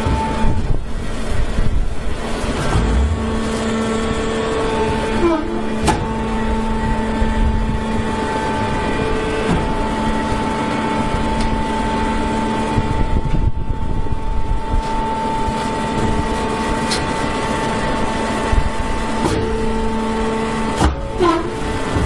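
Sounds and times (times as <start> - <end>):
baler machine hum: 0.0 - 22.0
steady higher whine: 0.0 - 22.0.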